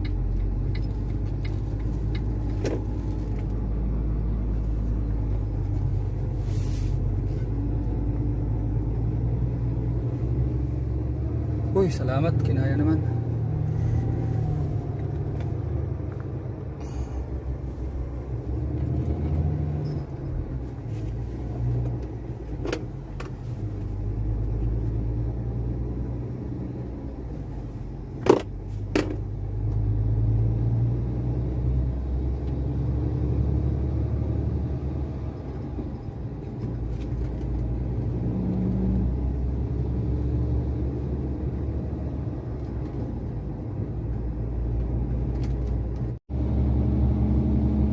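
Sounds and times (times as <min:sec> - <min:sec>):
truck engine rumble: 0:00.0 - 0:47.9.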